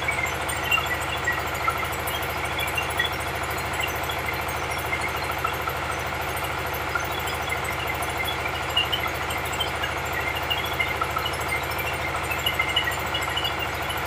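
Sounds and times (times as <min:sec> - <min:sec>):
diesel engine running under load: 0:00.0 - 0:14.0
rice huller milling: 0:00.0 - 0:14.0.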